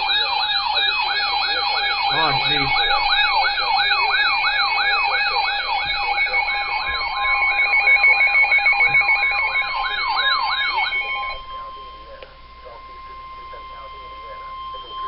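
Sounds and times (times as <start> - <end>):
electronic siren yelping: 0.0 - 15.0
steady warning alarm tone: 0.0 - 15.0.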